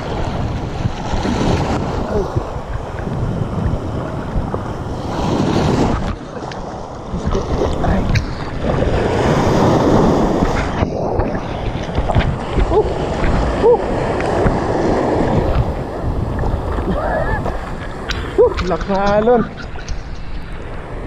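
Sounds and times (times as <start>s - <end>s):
waves breaking on rock: 0.0s - 21.0s
wind buffeting microphone: 0.0s - 21.0s.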